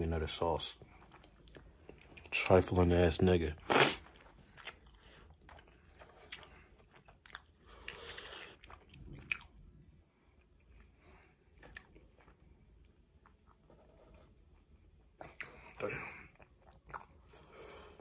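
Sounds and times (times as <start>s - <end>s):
person chewing food: 0.7s - 18.0s.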